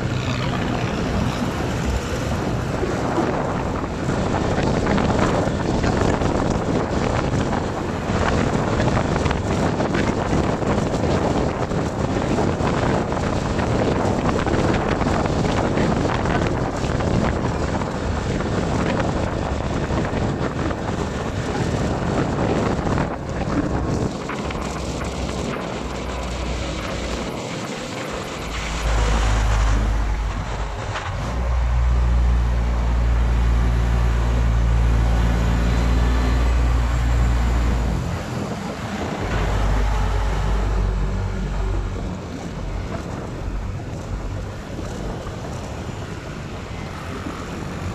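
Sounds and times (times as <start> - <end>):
vehicle engine hum: 0.0 - 47.9
wind rushing over microphone: 0.0 - 47.9.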